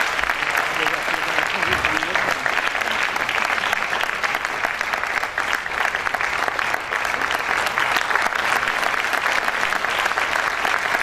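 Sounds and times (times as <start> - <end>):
audience applause: 0.0 - 11.0.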